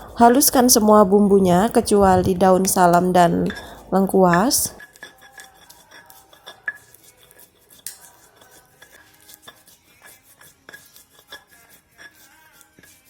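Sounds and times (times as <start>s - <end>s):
utensils clinking against dishes: 0.0s - 13.0s.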